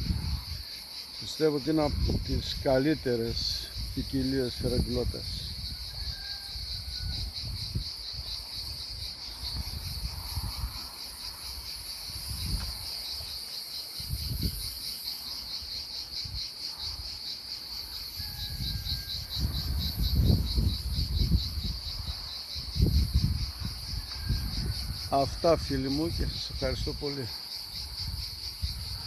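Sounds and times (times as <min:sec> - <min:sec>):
insects chirping trill: 0:00.0 - 0:29.0.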